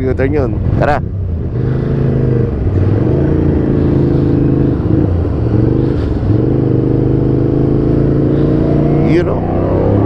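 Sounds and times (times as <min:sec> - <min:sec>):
motorcycle engine accelerating: 0:00.6 - 0:10.0.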